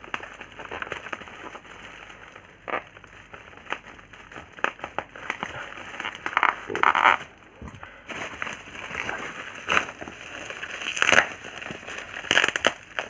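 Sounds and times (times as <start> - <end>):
bubble wrap crinkling and crackling: 0.0 - 13.0
plastic rustling tear: 0.0 - 13.0.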